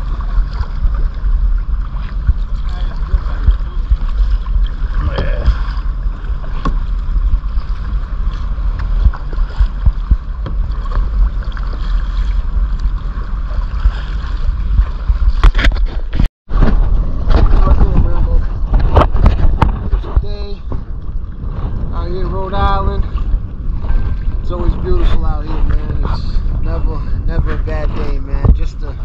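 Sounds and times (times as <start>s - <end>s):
water lapping against kayak hull: 0.0s - 29.0s
wind buffeting microphone: 0.0s - 29.0s.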